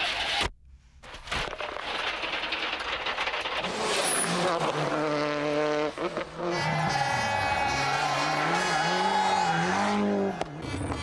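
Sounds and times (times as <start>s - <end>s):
rally car engine at full speed: 1.5s - 11.0s.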